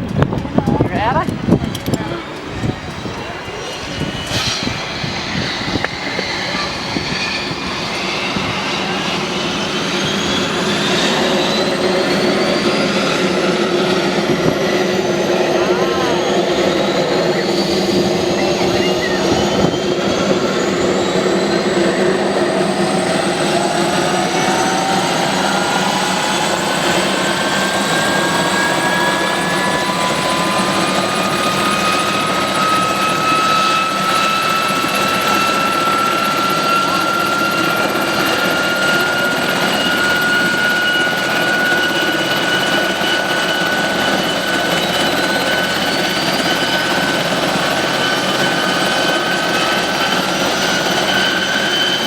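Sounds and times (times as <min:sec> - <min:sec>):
aircraft engine running: 0:00.0 - 0:52.0.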